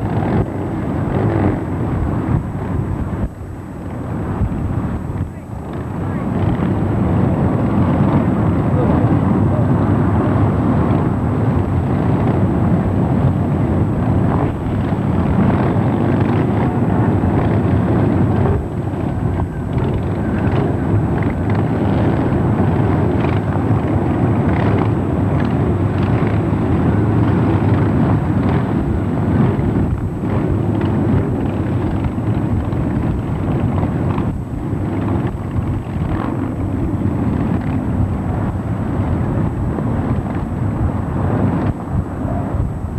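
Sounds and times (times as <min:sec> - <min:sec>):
motorcycle engines rumbling: 0:00.0 - 0:42.9.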